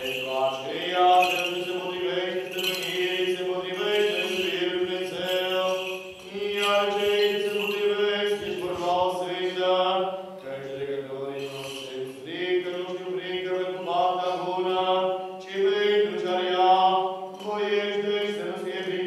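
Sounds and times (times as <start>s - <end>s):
voices chanting slow melody: 0.0s - 19.0s.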